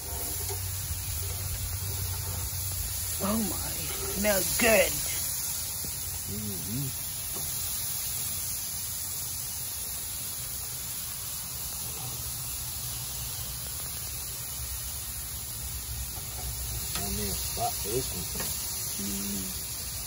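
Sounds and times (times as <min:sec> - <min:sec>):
pork chops sizzling on a grill: 0:00.0 - 0:20.0.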